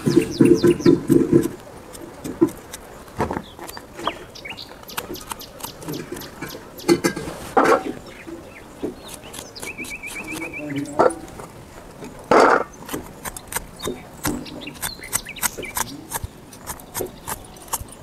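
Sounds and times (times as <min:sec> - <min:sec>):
knife scraping roots: 0:00.0 - 0:08.0, 0:08.8 - 0:11.4, 0:12.1 - 0:18.0
birds chirping: 0:00.0 - 0:18.0
chickens clucking: 0:00.0 - 0:18.0.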